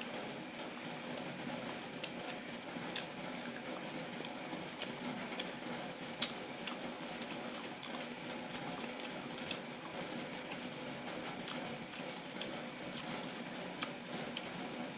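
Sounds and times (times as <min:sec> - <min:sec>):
person chewing with mouth clicks: 0:01.9 - 0:05.6, 0:06.2 - 0:14.7.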